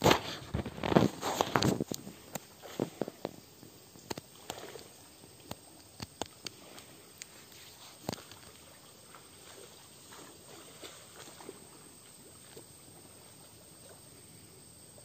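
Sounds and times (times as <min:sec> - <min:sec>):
faint outdoor hush: 0:00.0 - 0:15.0.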